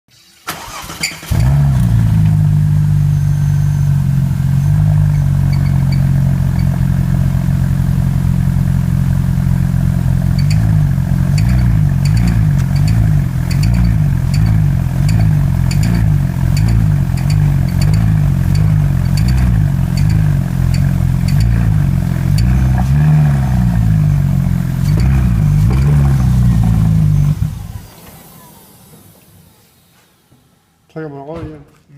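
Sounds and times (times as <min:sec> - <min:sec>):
car engine starting and idling: 0:00.2 - 0:30.9.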